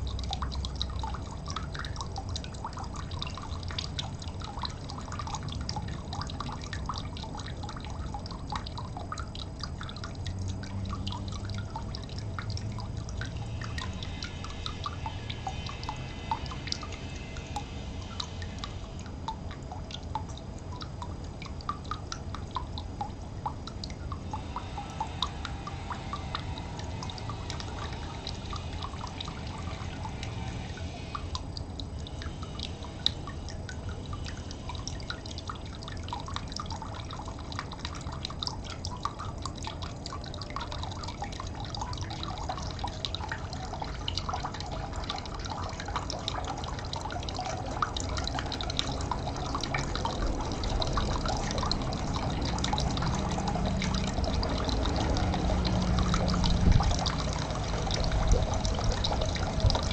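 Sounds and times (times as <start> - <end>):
steady low rumble: 0.0 - 59.9
water trickling and dripping: 0.0 - 59.9.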